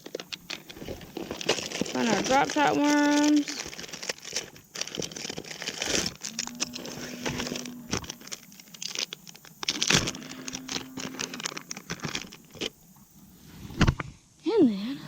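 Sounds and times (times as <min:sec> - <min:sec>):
plastic crinkling: 0:00.0 - 0:13.1.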